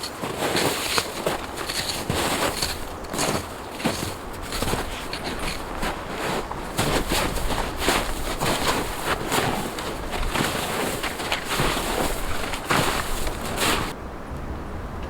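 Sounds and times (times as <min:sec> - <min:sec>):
snow and ice being chipped: 0:00.0 - 0:13.9.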